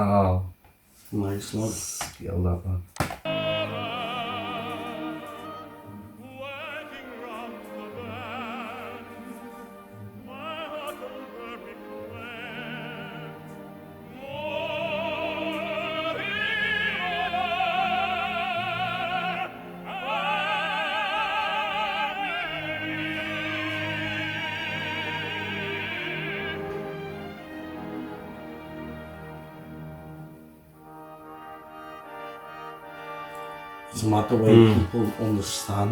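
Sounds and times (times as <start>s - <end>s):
operatic tenor singing: 3.3s - 30.2s, 30.8s - 35.9s
orchestra playing: 3.3s - 35.9s.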